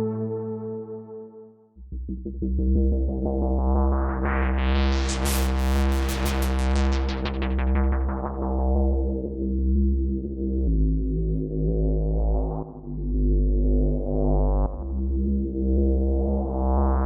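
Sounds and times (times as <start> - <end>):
deep synth bass: 1.8 - 17.0.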